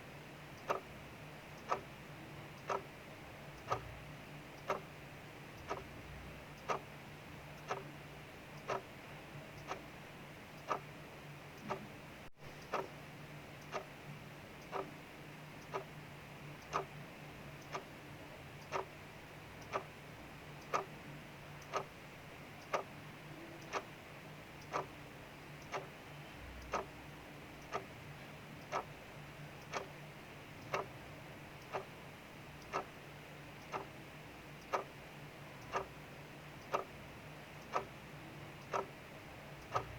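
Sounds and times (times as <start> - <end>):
clock ticking: 0.4 - 11.9, 12.6 - 15.0, 15.6 - 16.0, 16.6 - 28.0, 28.6 - 39.9.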